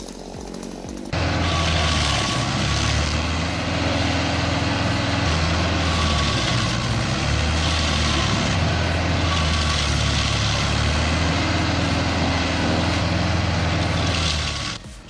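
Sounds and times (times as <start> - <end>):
stump grinder engine running: 1.1 - 15.0.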